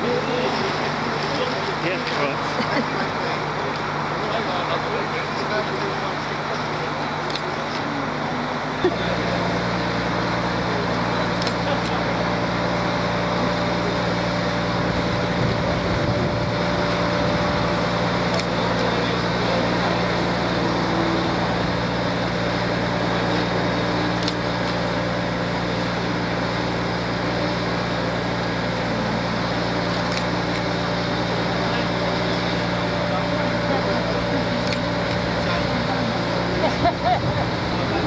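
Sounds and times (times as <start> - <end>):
engine droning steadily: 0.0 - 38.0.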